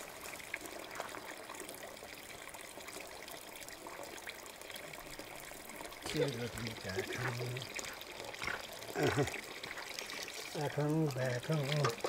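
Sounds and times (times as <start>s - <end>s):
water trickling into a bucket: 0.0s - 12.0s.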